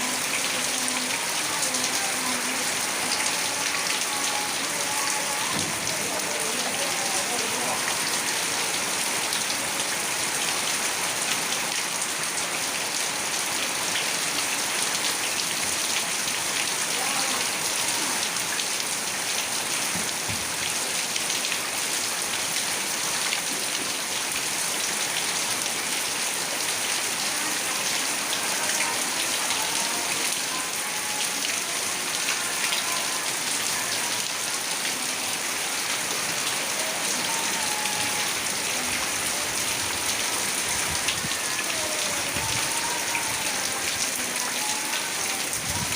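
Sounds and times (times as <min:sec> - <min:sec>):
heavy rain pattering: 0:00.0 - 0:45.9.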